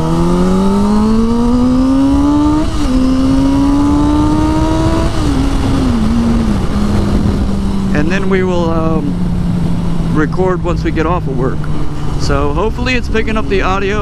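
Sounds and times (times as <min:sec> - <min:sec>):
motorcycle engine accelerating: 0:00.0 - 0:14.0
wind and road noise: 0:00.0 - 0:14.0.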